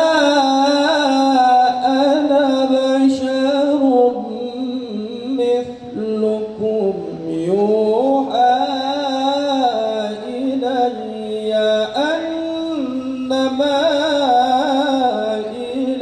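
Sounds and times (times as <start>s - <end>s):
man reciting melodically into microphone: 0.0s - 16.0s.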